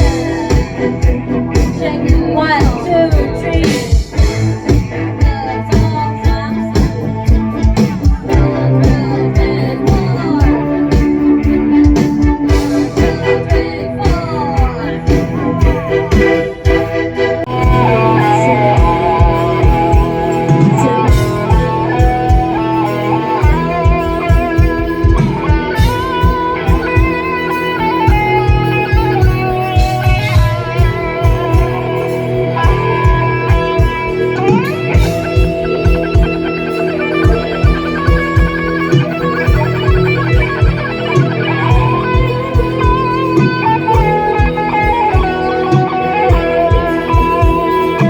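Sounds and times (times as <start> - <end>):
person singing: 0.0 - 16.8, 17.4 - 48.0
drums beating: 0.0 - 48.0
guitar and bass: 0.0 - 48.0.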